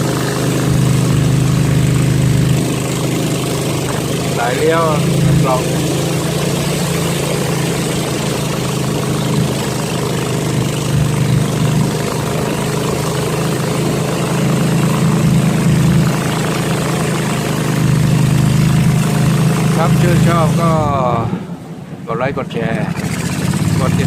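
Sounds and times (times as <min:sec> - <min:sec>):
small boat engine droning: 0:00.0 - 0:24.0.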